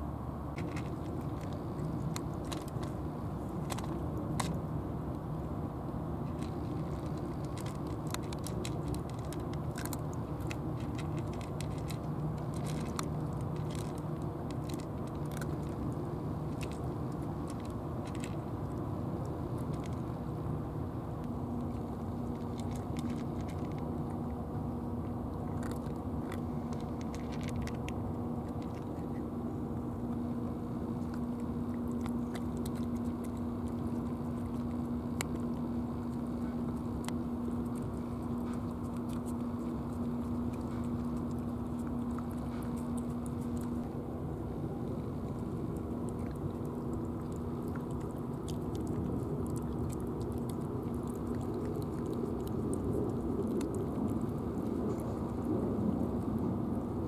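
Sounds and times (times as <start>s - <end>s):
low hum: 0.0s - 57.0s
cats crunching dry kibble: 0.5s - 57.0s.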